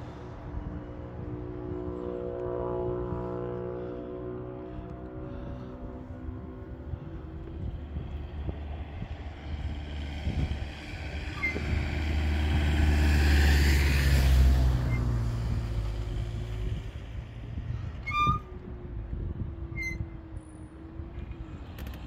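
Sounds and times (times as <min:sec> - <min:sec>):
motor vehicle passing by: 0:00.0 - 0:22.0.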